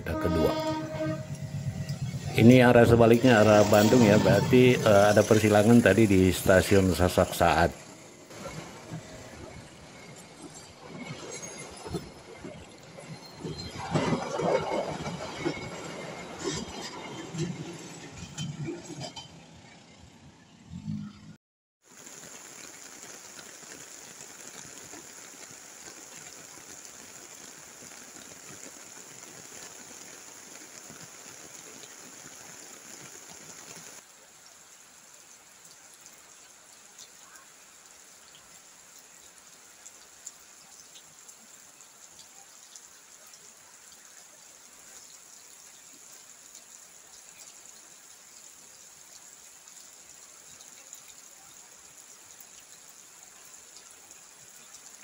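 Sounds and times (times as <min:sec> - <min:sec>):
steady rain on road: 0:00.1 - 0:14.2, 0:21.8 - 0:55.0.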